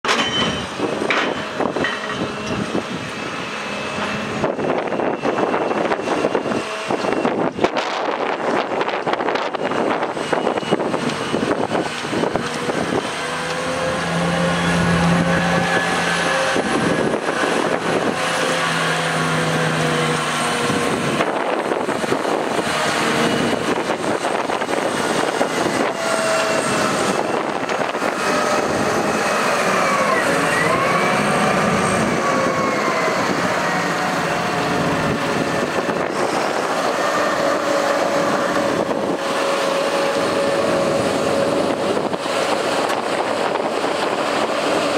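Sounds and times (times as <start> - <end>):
diesel engine under load: 0.0 - 44.9
hydraulic whine: 0.1 - 44.9.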